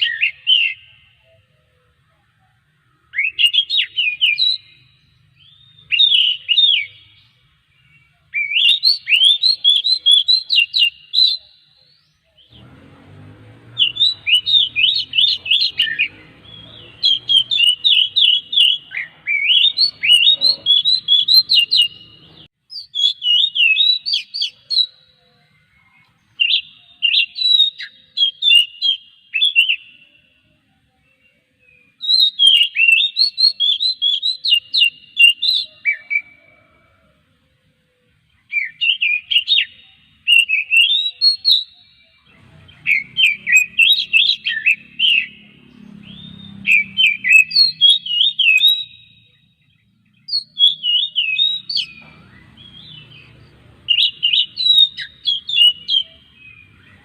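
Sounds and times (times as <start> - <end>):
bird singing chirps and whistles: 0.0 - 1.6, 3.0 - 12.7, 13.6 - 30.4, 31.0 - 36.7, 38.4 - 57.0.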